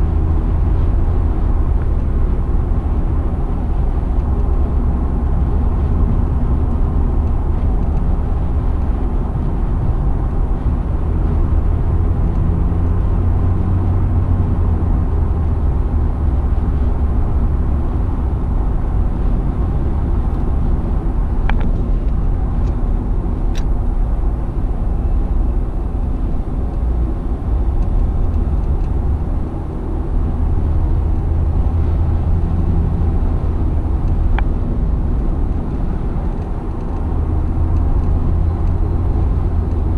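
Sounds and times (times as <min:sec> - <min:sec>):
tyres and engine rumble: 0:00.0 - 0:39.9.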